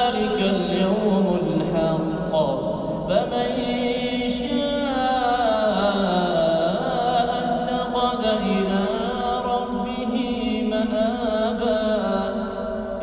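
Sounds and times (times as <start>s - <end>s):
person chanting melodic recitation: 0.0s - 13.0s.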